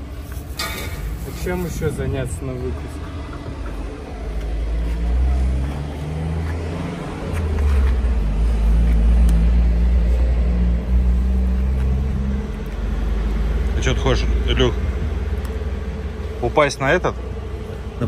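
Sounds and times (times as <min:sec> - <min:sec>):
heavy truck engine humming: 0:00.0 - 0:18.0.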